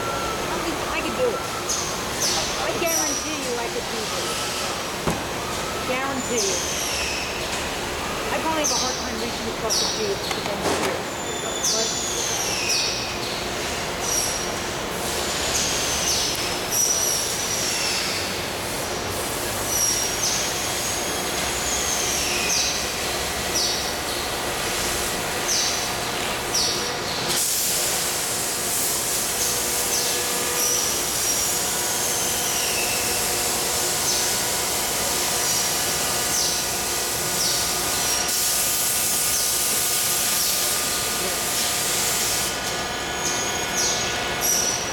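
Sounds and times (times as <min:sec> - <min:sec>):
machinery humming: 0:00.0 - 0:44.9.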